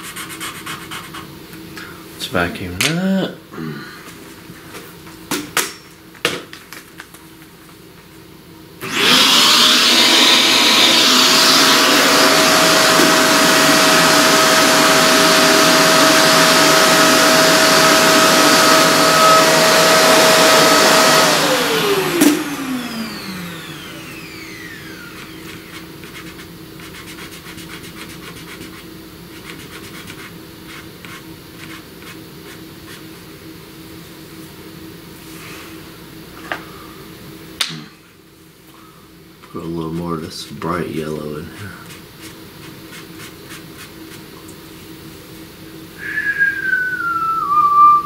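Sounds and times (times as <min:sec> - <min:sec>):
vacuum cleaner running: 0:08.6 - 0:38.1, 0:38.7 - 0:48.0.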